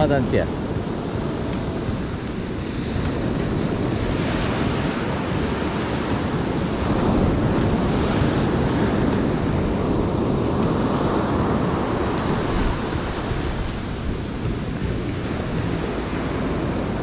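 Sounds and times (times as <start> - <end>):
sea surf washing ashore: 0.0 - 17.0
wind buffeting microphone: 0.0 - 17.0.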